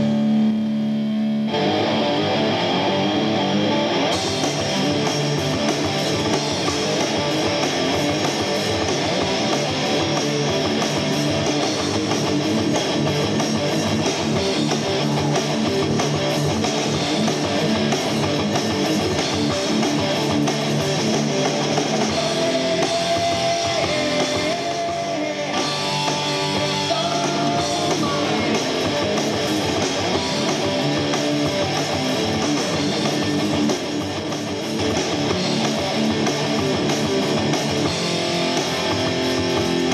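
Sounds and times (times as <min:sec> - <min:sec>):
bass guitar: 0:00.0 - 0:39.9
drums: 0:00.0 - 0:39.9
electric guitar: 0:00.0 - 0:39.9.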